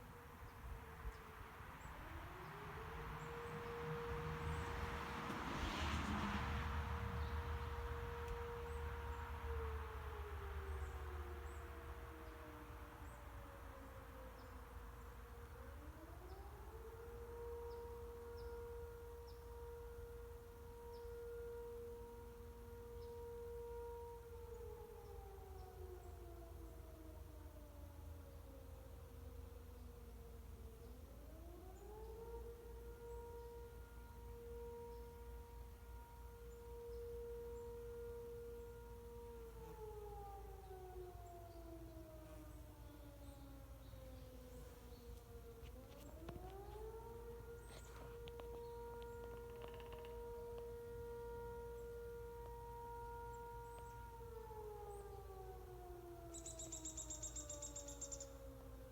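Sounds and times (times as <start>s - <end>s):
distant warning siren: 0.0s - 58.9s.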